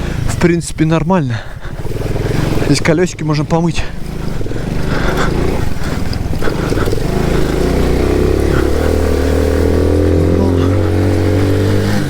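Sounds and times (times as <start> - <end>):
moped engine running: 0.0 - 12.0.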